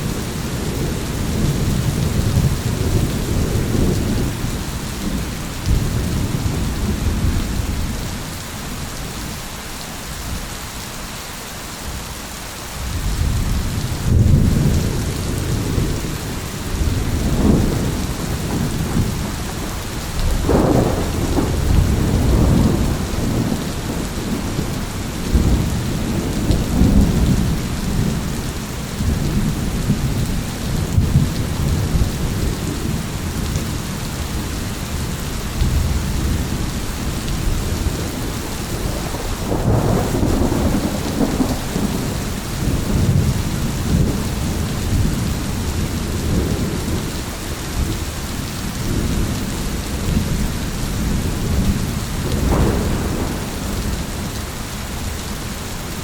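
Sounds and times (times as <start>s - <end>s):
rolling thunder: 0.0s - 8.2s, 12.9s - 55.2s
steady rain: 0.0s - 56.0s.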